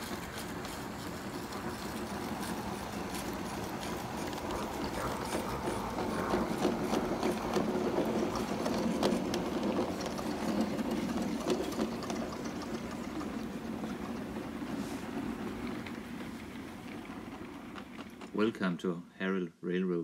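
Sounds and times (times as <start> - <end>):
wheels clicking on track: 0.0 - 19.0.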